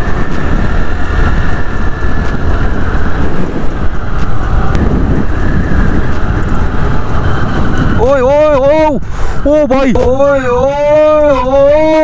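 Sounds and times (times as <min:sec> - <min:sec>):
road noise: 0:00.0 - 0:12.0
scooter engine: 0:00.0 - 0:12.0
wind rush on microphone: 0:00.0 - 0:12.0.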